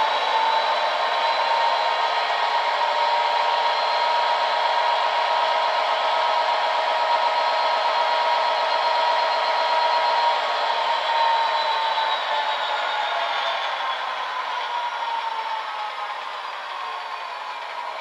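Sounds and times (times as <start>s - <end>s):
diesel engine idling with high whine: 0.0s - 18.0s.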